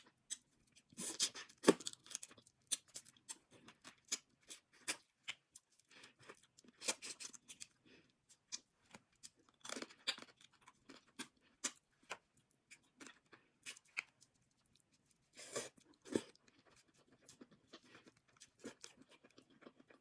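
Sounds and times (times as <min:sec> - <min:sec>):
chewing: 0:00.3 - 0:20.0.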